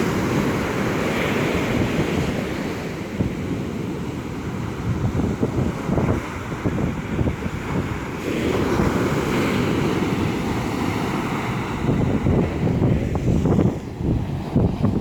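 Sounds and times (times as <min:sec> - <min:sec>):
sea surf: 0:00.0 - 0:15.0
wave breaking and washing in: 0:00.0 - 0:15.0
wind buffeting microphone: 0:00.0 - 0:15.0.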